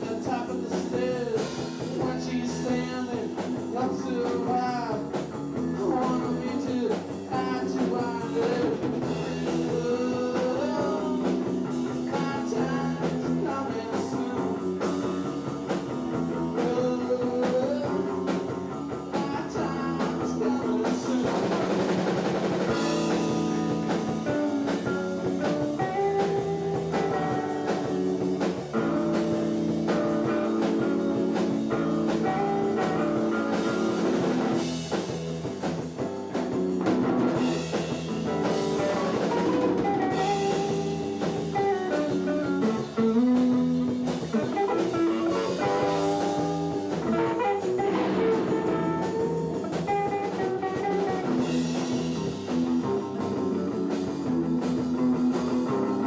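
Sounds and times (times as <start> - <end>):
electric guitar: 0.0 - 56.0
rock band playing live: 0.0 - 56.0.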